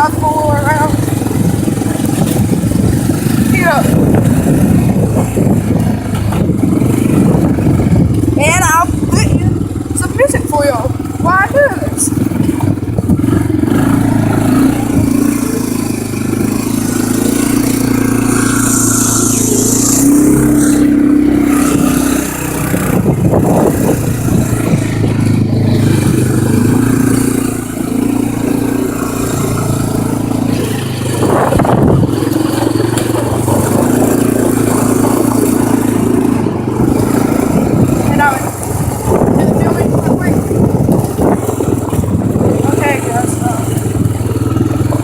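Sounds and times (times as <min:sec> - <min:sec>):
atv engine running: 0:00.0 - 0:45.0
rattling: 0:00.0 - 0:45.0
wind noise: 0:00.0 - 0:45.0.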